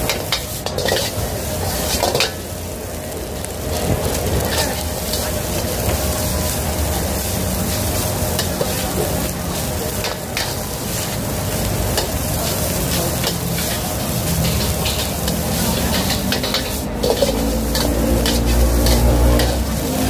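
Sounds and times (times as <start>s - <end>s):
metal utensils scraping a wok: 0.0s - 20.0s
rice sizzling in a hot wok: 0.0s - 20.0s.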